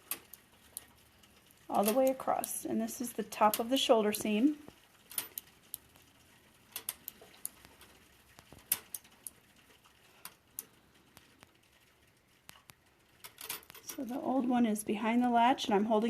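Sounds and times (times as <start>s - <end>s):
knitting machine needles clicking: 0.0s - 16.0s.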